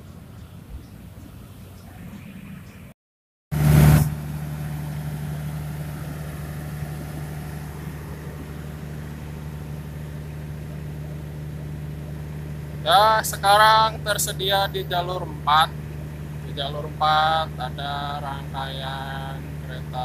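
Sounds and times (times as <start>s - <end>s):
diesel engine idling: 3.6s - 20.0s.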